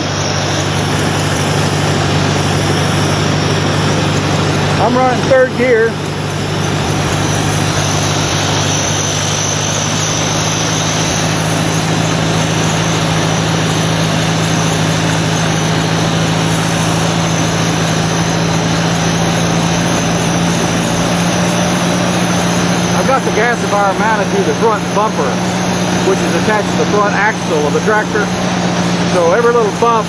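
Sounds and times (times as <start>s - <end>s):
tractor engine running steadily: 0.0s - 30.0s.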